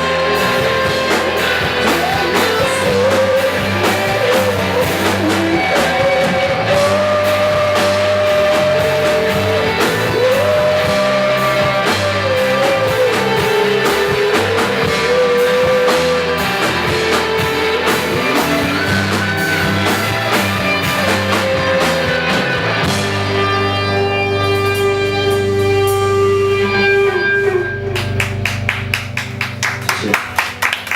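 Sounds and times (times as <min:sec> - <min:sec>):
lead melody voice: 0:00.0 - 0:30.9
rock music with guitar and drums: 0:00.0 - 0:30.9.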